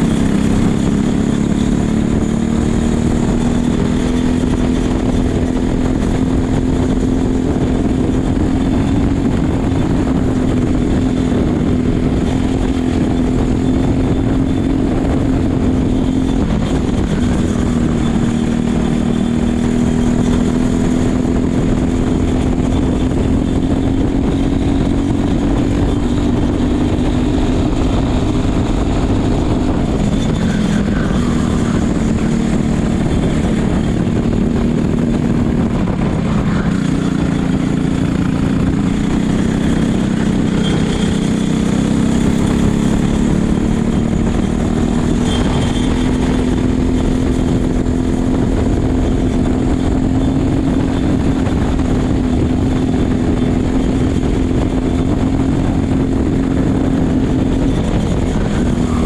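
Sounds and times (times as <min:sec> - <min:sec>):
kart engine revving: 0:00.0 - 0:59.0
wind noise on microphone: 0:00.0 - 0:59.0.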